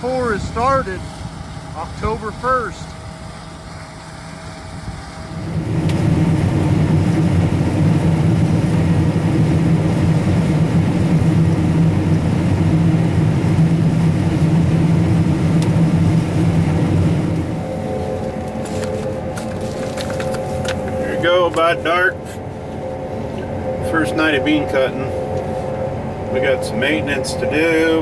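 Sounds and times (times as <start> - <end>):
combine harvester engine running: 0.0 - 28.0.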